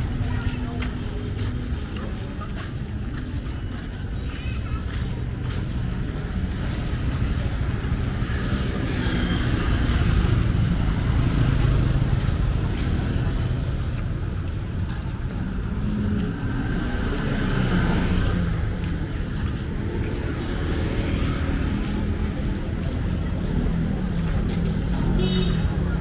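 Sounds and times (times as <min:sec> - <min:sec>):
vehicle engines passing: 0:00.0 - 0:26.0.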